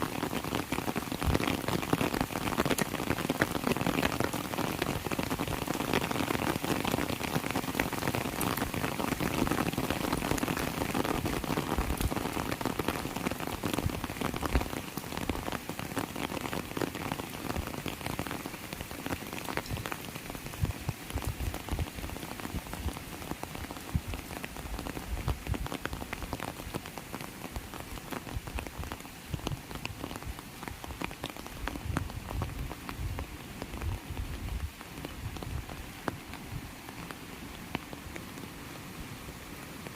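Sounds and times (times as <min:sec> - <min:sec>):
raindrops ticking: 0:00.0 - 0:38.4
heavy rain hissing: 0:00.0 - 0:39.9.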